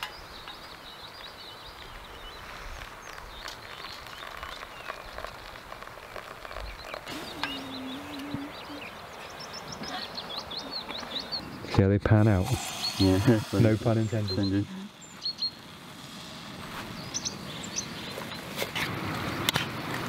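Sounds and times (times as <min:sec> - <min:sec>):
songbirds chirping and singing: 0:00.0 - 0:05.6, 0:06.2 - 0:15.7, 0:16.8 - 0:18.5.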